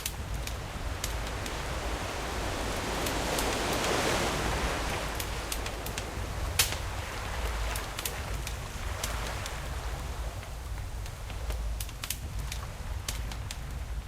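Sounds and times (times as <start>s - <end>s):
campfire crackling and popping: 0.0s - 2.1s, 2.7s - 14.0s
sea waves washing: 0.0s - 14.0s.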